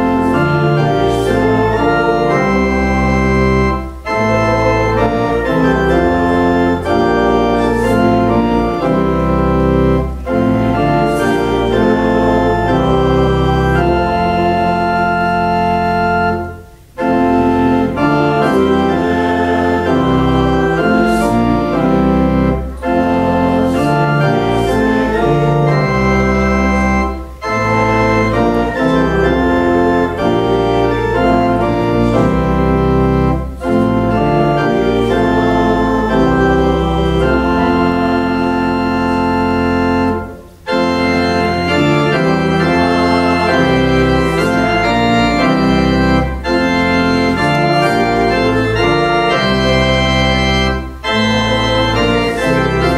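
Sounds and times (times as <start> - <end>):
pipe organ chords: 0.0 - 52.9.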